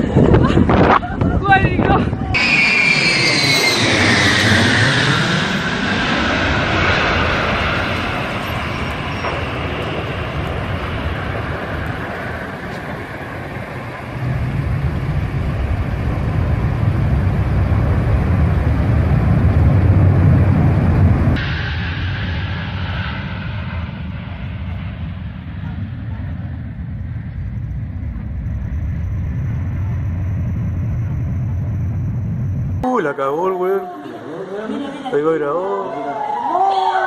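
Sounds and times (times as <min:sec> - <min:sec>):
jet engines passing overhead: 0:00.0 - 0:32.8
deep jet rumble: 0:00.0 - 0:32.9.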